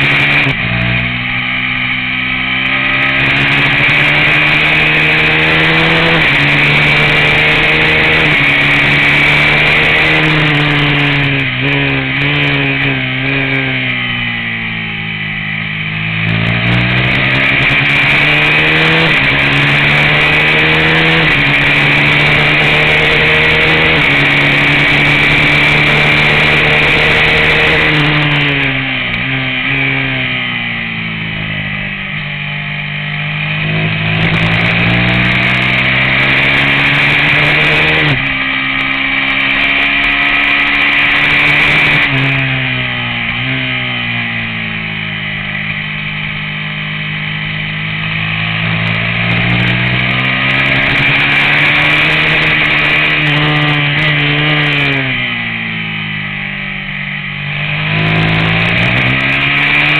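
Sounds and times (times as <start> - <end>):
racing motorcycle engine revving: 0.0 - 59.9.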